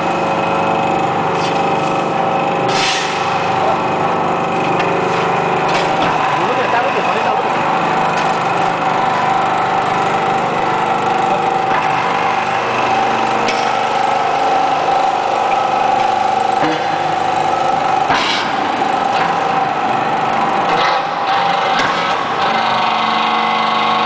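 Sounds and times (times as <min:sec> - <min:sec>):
hydraulic press whining: 0:00.0 - 0:24.0.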